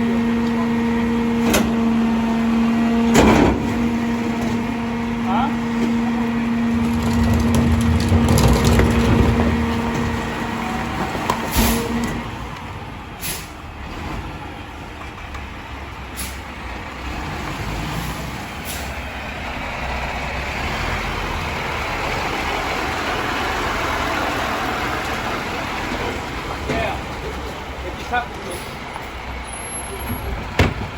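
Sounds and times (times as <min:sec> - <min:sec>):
garbage truck running: 0:00.0 - 0:30.9.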